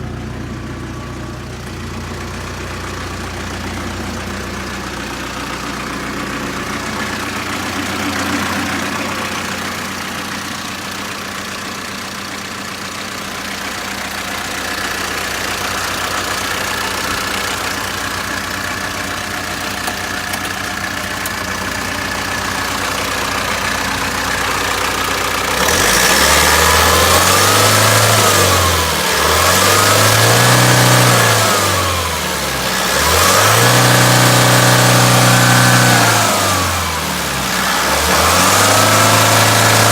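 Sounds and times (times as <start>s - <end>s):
truck engine idling and revving: 0.0s - 39.9s.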